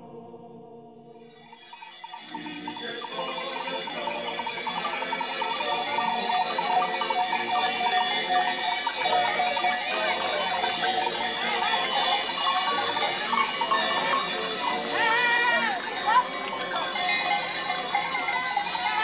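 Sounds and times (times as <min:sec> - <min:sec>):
goat bells clanging: 0:01.4 - 0:19.0.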